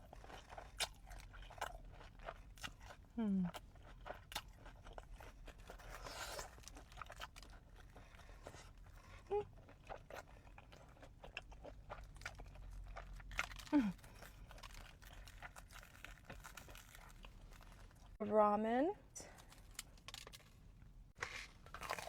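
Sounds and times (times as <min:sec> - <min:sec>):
crunchy biting and chewing: 0:00.0 - 0:18.2, 0:21.2 - 0:22.0.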